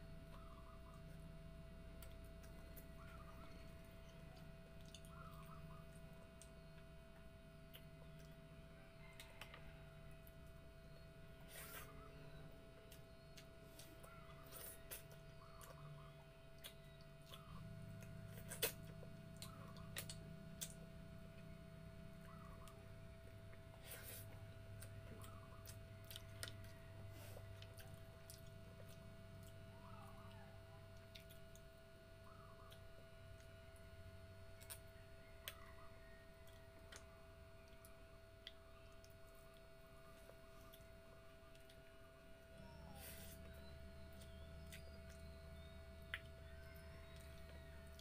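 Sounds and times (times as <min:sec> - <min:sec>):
soft chewing: 0:00.0 - 0:48.0
steady low hum: 0:00.0 - 0:48.0.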